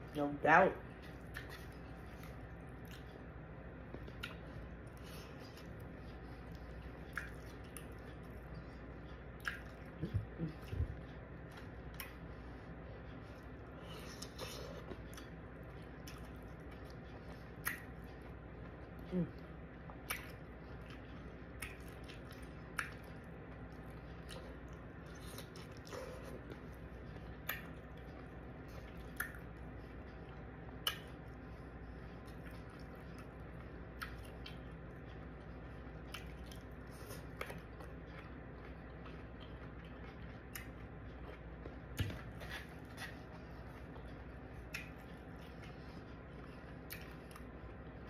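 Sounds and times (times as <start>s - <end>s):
faint steady hum: 0.0s - 48.0s
chewing food: 0.8s - 48.0s.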